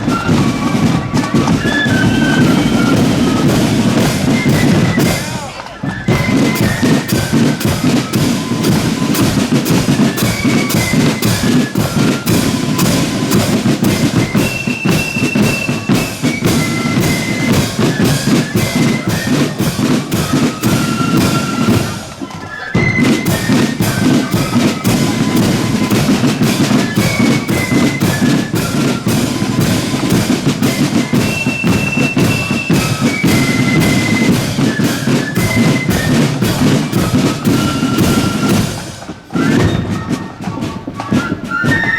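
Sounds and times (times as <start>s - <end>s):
bass and snare drumming: 0.0s - 41.9s
flutes playing a tune: 0.0s - 41.9s.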